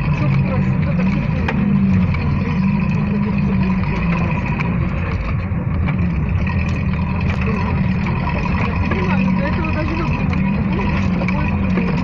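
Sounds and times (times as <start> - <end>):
jeep engine rumbling: 0.0 - 12.0
vehicle rattles and knocks: 0.0 - 12.0.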